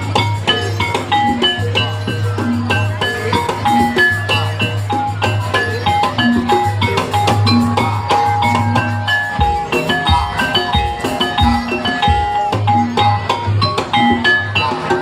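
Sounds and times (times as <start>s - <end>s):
drums: 0.0s - 15.0s
tuned percussion playing quick notes: 0.0s - 15.0s.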